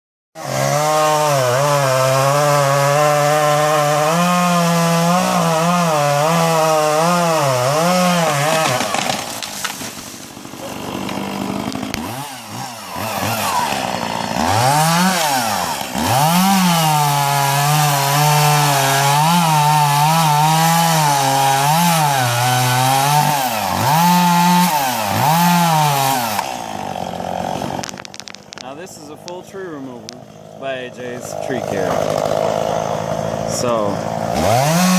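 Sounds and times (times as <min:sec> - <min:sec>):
chainsaw cutting wood: 0:00.4 - 0:34.9.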